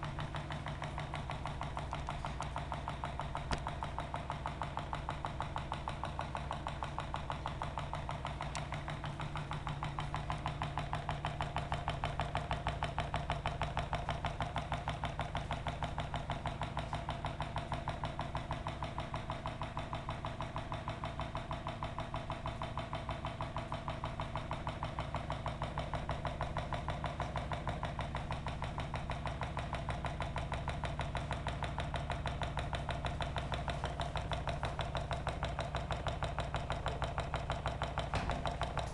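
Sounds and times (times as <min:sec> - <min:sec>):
constant hum: 0:00.0 - 0:38.9
stirling engine running: 0:00.0 - 0:38.9.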